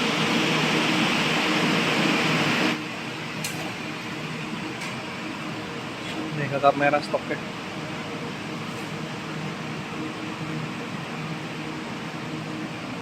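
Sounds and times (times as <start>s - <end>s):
fan hiss: 0.0s - 13.0s.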